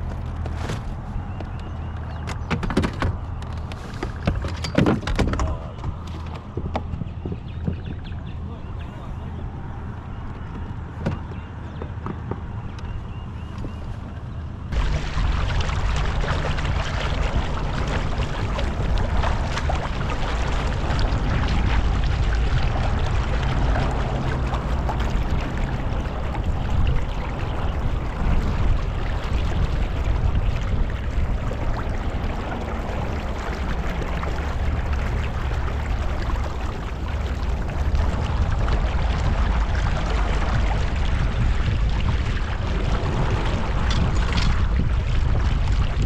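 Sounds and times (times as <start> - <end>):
wind and water rushing: 0.0 - 11.3, 12.5 - 46.0
heavy low rumble: 0.0 - 46.0.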